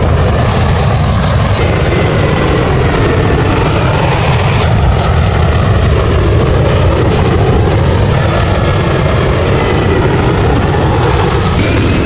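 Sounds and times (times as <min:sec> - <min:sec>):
airplane engine rumble: 0:00.0 - 0:12.0.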